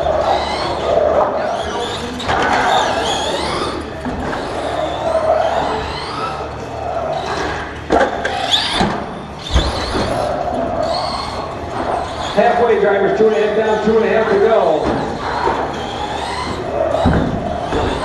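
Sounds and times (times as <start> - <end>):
rc truck motors whining: 0.0 - 18.0.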